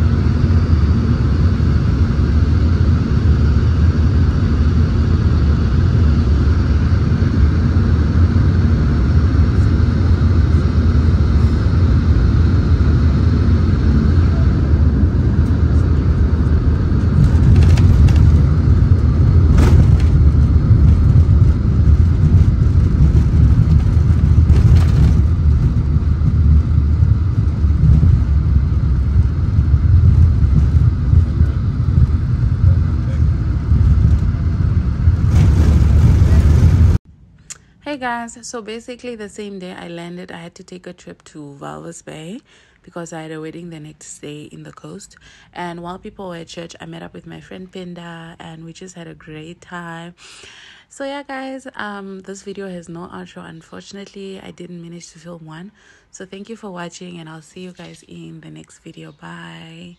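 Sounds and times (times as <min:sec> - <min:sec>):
steady whine: 0:00.0 - 0:50.2
aircraft engine and airflow rumble: 0:00.0 - 0:59.9.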